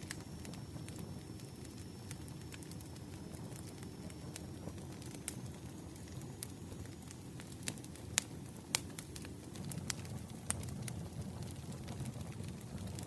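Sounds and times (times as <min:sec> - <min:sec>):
low rush of flames: 0:00.0 - 0:13.0
wood crackling and popping: 0:00.0 - 0:13.0.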